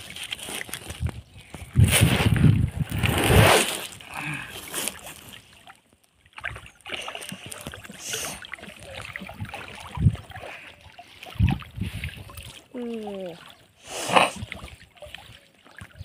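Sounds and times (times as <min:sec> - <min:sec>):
wet net rustling and dripping: 0:00.0 - 0:13.7, 0:14.4 - 0:16.0.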